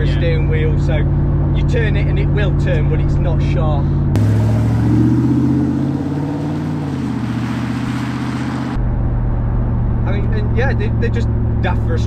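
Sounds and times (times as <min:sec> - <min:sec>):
car engine running: 0:00.0 - 0:12.0
road and wind noise: 0:00.0 - 0:12.0.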